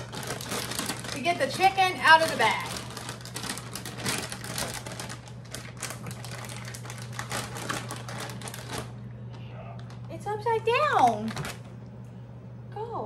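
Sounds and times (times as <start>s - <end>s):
plastic bag crinkling: 0.0s - 10.1s, 10.9s - 11.7s.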